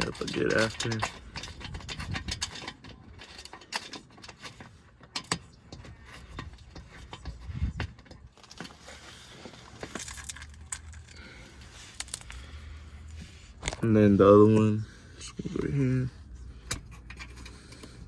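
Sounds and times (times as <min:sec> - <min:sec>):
metal fasteners clicking and rattling: 0:00.0 - 0:18.0.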